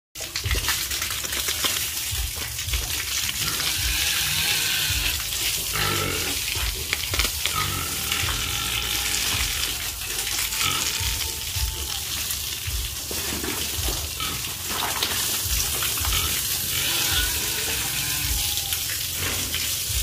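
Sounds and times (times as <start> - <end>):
hose water splashing on concrete: 0.2 - 20.0.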